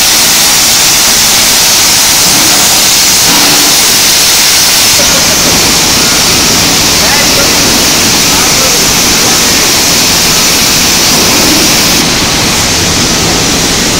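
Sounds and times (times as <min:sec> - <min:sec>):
cutting torch hissing: 0:00.0 - 0:13.9.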